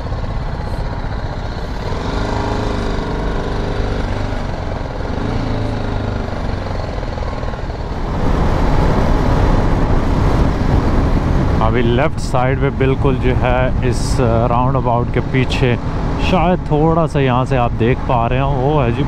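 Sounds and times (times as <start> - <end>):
motorcycle engine running: 0.0 - 19.0
traffic noise: 0.0 - 19.0.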